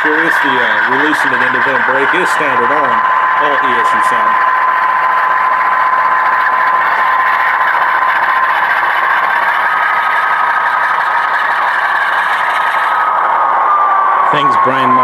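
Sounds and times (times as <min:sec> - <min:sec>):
model locomotive engine sound: 0:00.0 - 0:15.0.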